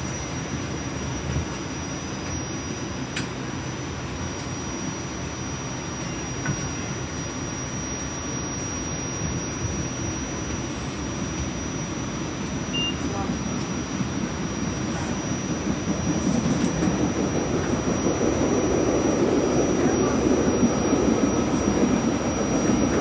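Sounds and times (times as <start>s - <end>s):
high whine: 0.0s - 23.0s
light-rail car rumble: 0.0s - 23.0s.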